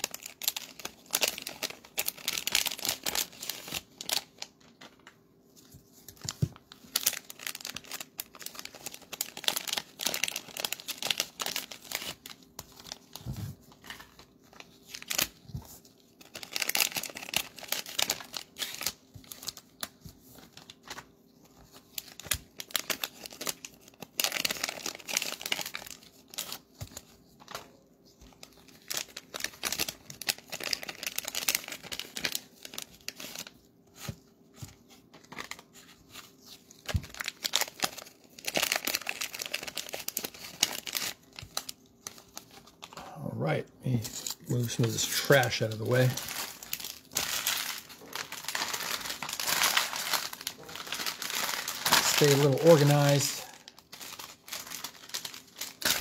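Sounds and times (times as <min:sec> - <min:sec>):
plastic wrappers crinkling and tearing: 0:00.0 - 0:56.0.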